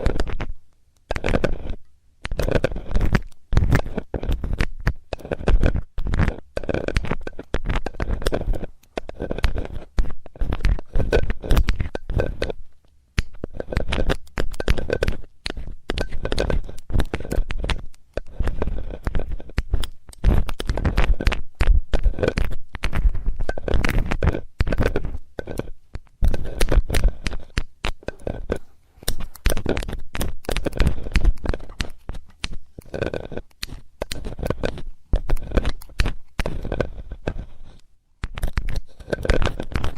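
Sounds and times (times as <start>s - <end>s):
metal tool scraping microphone: 0.0s - 0.5s, 1.1s - 39.9s.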